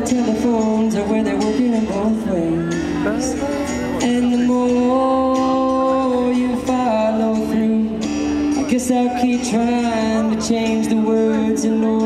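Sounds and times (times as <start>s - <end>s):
acoustic guitar: 0.0s - 12.0s
man singing: 0.0s - 12.0s.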